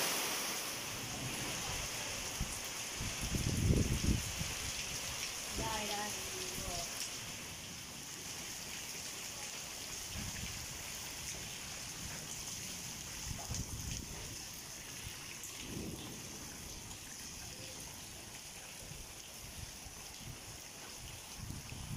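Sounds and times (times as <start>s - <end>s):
heavy rain on concrete: 0.0s - 21.9s.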